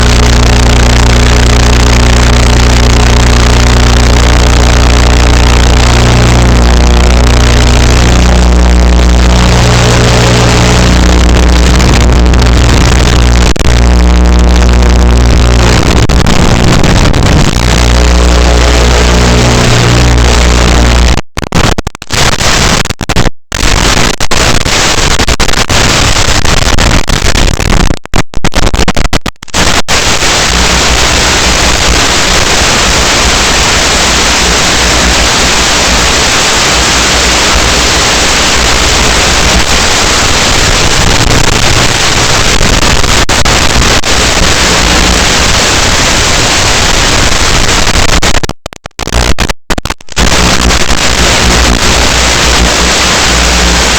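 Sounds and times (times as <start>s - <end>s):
loud white noise static hiss: 0.0s - 28.0s, 28.6s - 48.4s, 49.0s - 53.9s.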